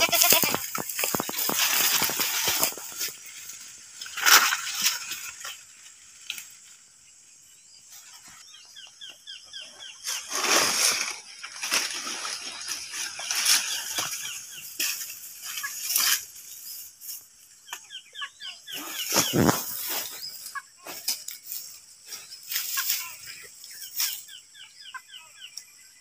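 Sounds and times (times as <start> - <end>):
dry leaves and grass rustling: 0.0 - 7.2, 9.7 - 24.6.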